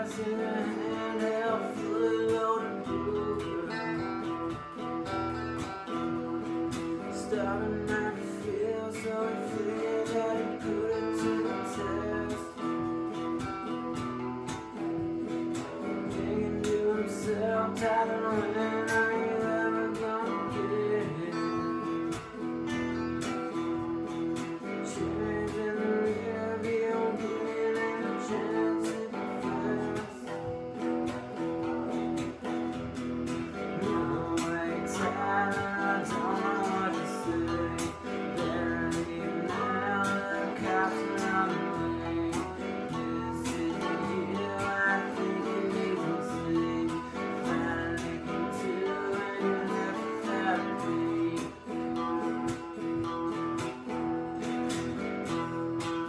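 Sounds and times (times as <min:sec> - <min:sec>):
electric guitar picking melody: 0:00.0 - 0:56.0
electric guitar strumming chords: 0:00.0 - 0:56.0.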